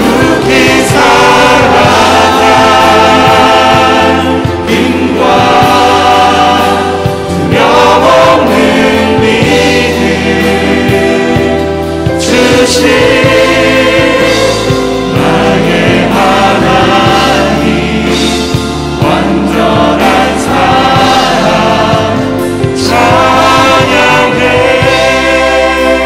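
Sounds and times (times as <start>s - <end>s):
group singing worship song: 0.0s - 26.0s
keyboard: 0.0s - 26.0s.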